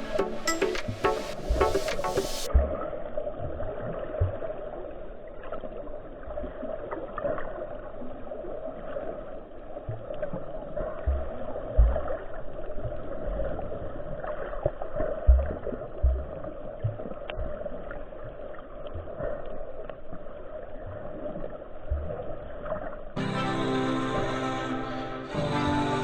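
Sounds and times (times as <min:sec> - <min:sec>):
muffled sea water noise: 0:00.0 - 0:26.0.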